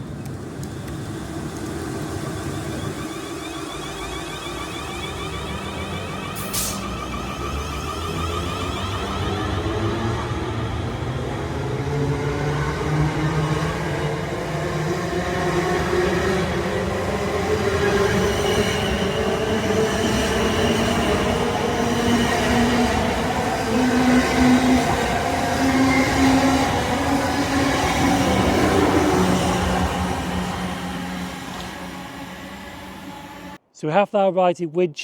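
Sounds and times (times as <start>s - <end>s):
electric train running on rails: 0.0s - 33.6s.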